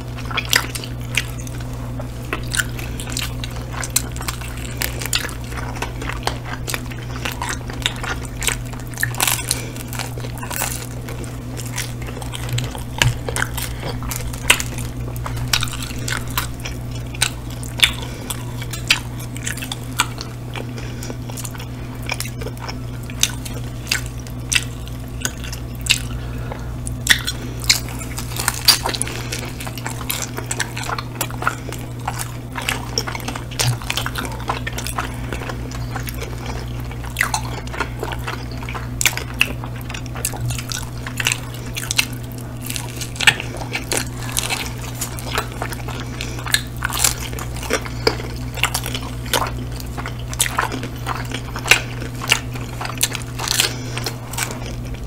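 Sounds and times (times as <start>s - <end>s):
people chewing food: 0.0s - 55.0s
steady low hum: 0.0s - 55.0s.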